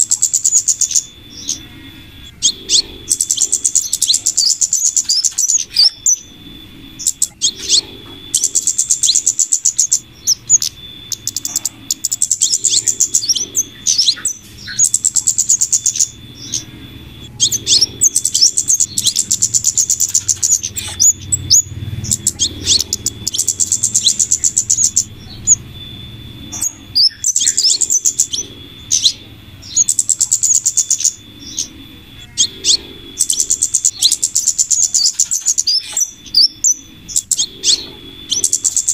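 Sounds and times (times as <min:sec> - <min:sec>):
high-pitched trilled bird chatter: 0:00.0 - 0:38.9.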